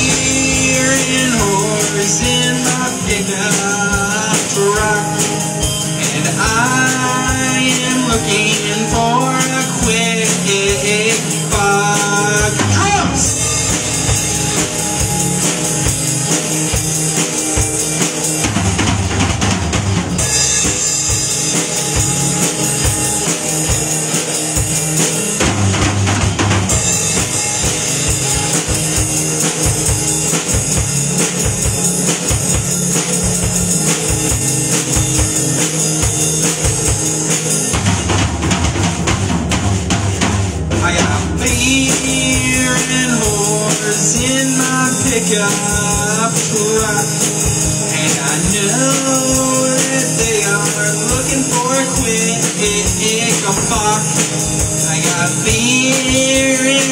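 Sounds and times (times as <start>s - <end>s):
electric guitar through amp: 0.0s - 56.9s
steady drumming: 0.0s - 56.9s.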